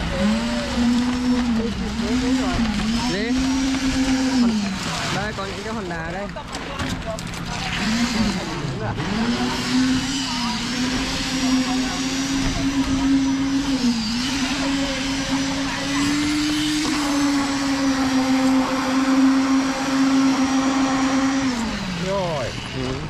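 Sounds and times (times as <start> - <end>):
concrete vibrator humming: 0.0 - 23.0.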